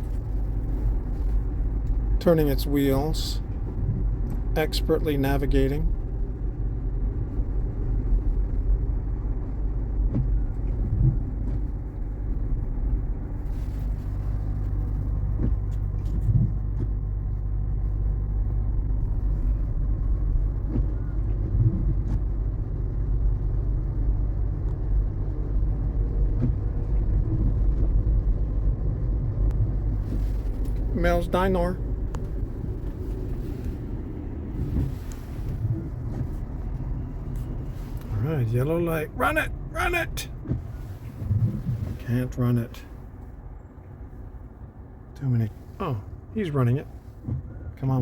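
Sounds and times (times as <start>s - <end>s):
car cabin road noise: 0.0s - 48.0s.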